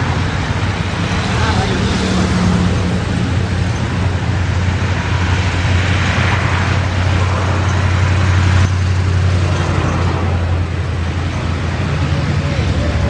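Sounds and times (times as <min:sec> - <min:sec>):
engine rumble: 0:00.0 - 0:13.0
rushing roar: 0:00.0 - 0:13.0.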